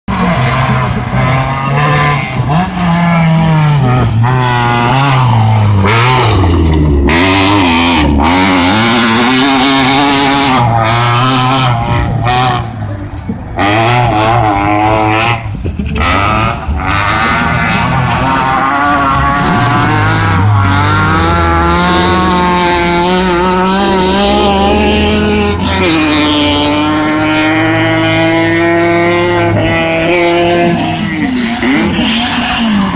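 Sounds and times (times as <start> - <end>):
rally car engine revving: 0.0 - 32.9.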